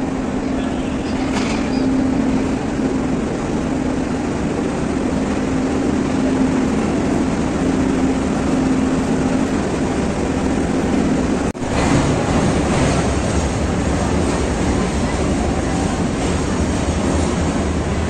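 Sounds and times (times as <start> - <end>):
train engine droning: 0.0 - 18.0.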